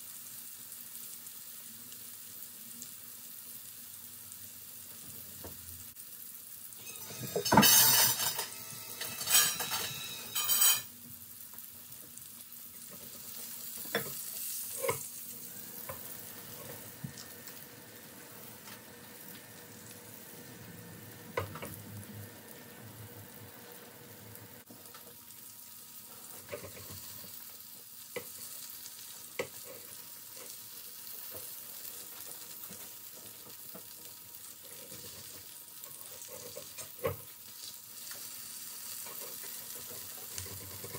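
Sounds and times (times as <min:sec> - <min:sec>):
tomato slices sizzling in oil: 0:00.0 - 0:40.9.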